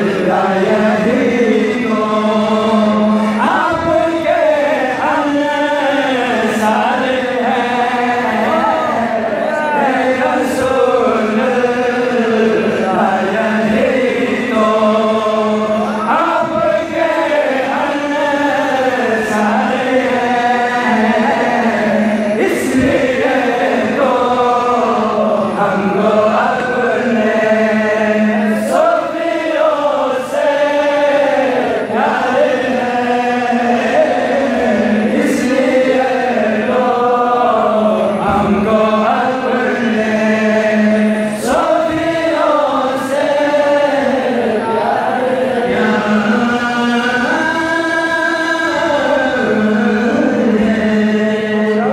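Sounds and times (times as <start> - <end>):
man chanting into microphones: 0.0 - 51.9.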